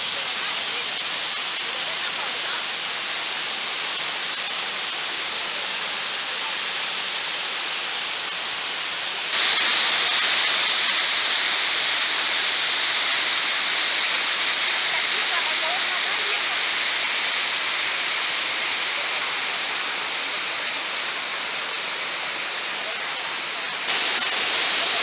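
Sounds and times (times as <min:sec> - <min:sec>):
waterfall hissing: 0:00.0 - 0:25.0.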